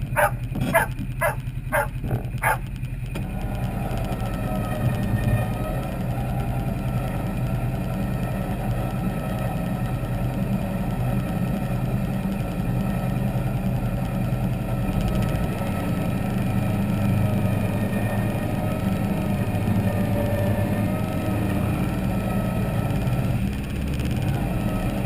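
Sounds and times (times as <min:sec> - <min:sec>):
engine idling: 0:00.0 - 0:25.0
winch whine: 0:00.0 - 0:25.0.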